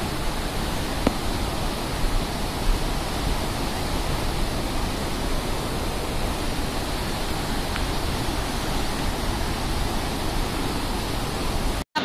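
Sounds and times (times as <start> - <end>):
floodwater rushing: 0.0 - 11.8.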